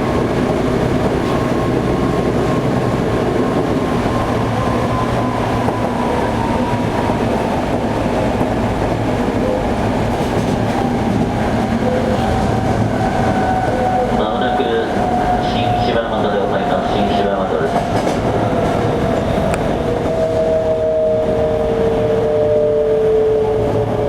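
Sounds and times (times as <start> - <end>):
rumble of wheels on rail: 0.0 - 24.0.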